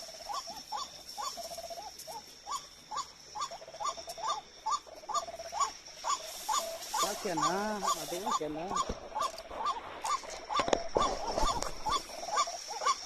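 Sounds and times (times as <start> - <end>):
high insect trill: 0.0 - 13.0
waterhen calling: 0.0 - 13.0.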